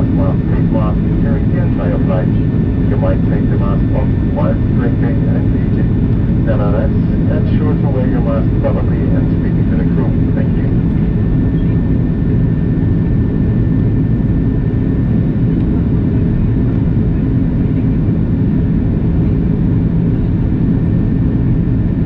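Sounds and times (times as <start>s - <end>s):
faint steady hum: 0.0s - 22.0s
jet engines rumbling: 0.0s - 22.0s.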